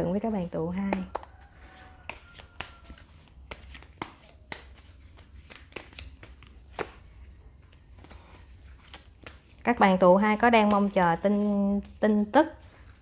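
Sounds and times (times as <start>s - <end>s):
cards being shuffled: 1.0s - 13.0s.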